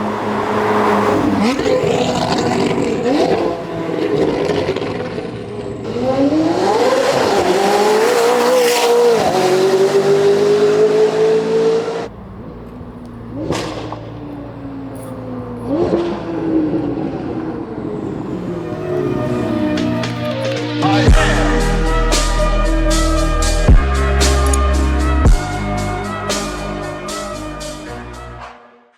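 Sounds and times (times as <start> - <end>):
sports car engine revving: 0.0 - 28.0.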